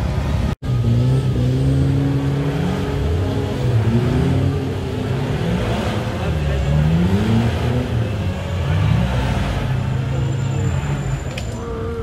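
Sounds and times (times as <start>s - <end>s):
suv engine revving: 0.6s - 12.0s.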